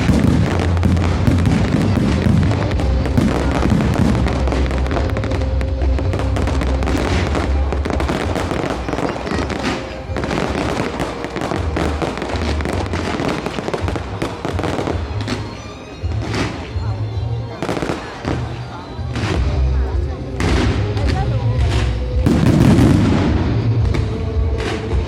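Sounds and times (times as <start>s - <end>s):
fireworks crackling and popping: 0.0s - 25.0s
fireworks low booms: 0.0s - 25.0s
music: 0.0s - 25.0s.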